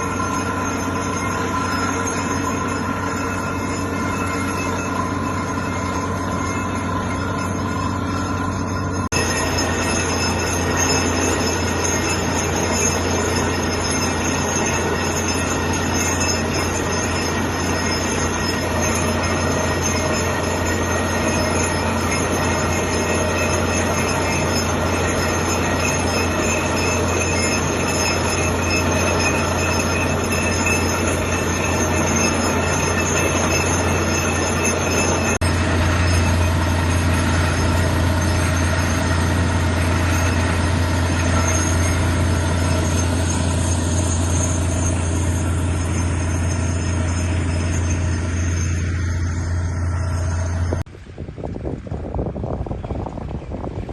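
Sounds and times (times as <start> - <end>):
high squealing tones: 0.0 - 50.8
machine low hum: 0.0 - 53.9.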